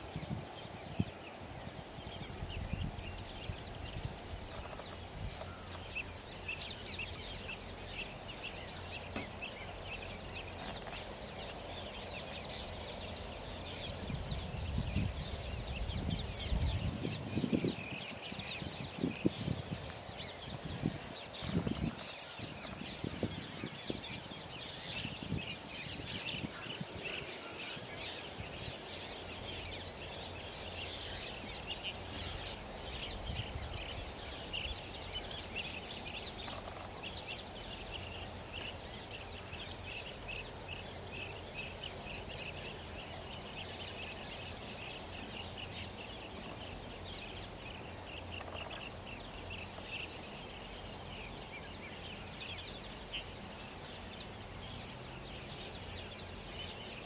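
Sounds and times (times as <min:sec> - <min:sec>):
insects trilling: 0:00.0 - 0:57.0
small birds chirping: 0:00.0 - 0:57.0.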